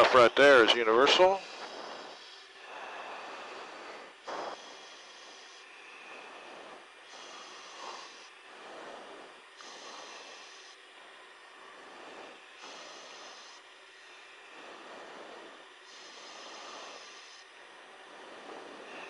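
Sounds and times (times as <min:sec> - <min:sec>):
person breathing into microphone: 0:01.3 - 0:19.0.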